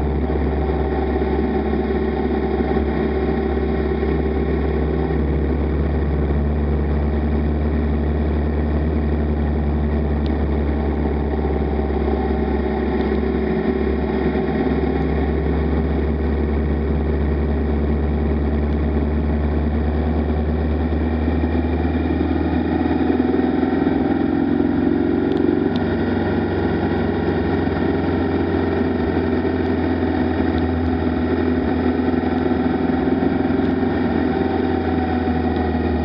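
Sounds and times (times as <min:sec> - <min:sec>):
motorcycle engine drone: 0:00.0 - 0:36.0
road noise: 0:00.0 - 0:36.0.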